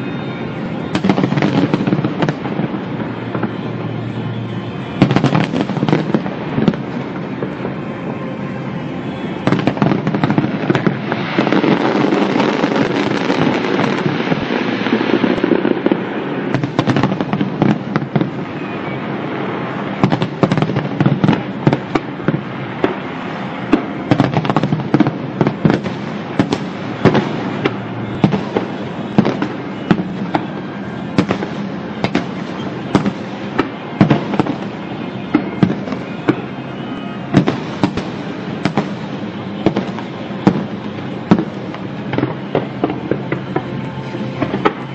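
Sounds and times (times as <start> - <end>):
fireworks bangs: 0.0 - 44.9
fireworks crackling: 0.0 - 44.9.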